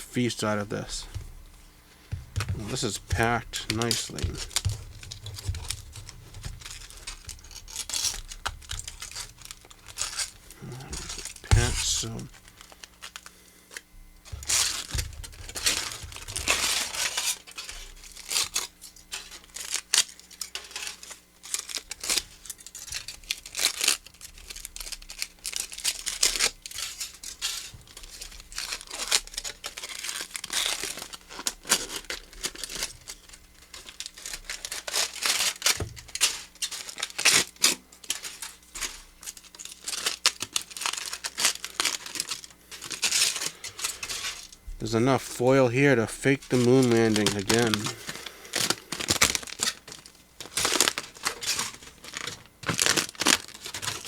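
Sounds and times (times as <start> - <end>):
aluminum foil crinkling and tearing: 0.2 - 54.0.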